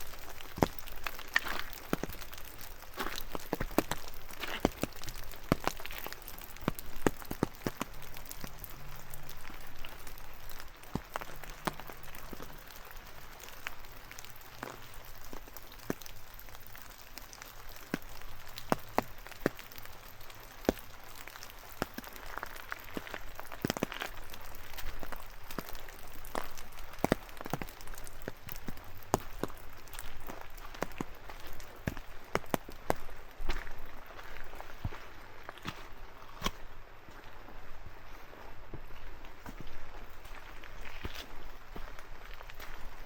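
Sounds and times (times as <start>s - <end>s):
rain hiss: 0.0s - 36.1s
large raindrops tapping: 0.0s - 36.6s.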